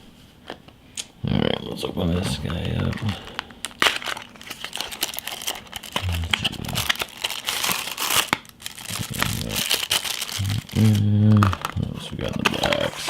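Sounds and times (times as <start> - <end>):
packaging crinkling and rustling: 2.1 - 13.0
packaging tearing: 2.2 - 13.0.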